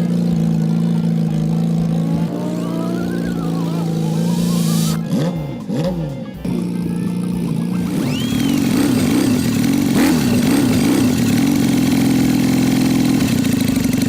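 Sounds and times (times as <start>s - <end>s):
engine sound effect: 0.0s - 14.0s.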